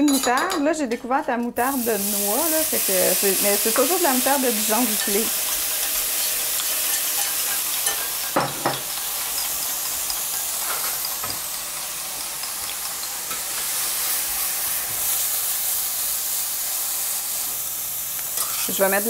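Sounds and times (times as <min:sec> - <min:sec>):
food sizzling in a pan: 0:01.6 - 0:19.0.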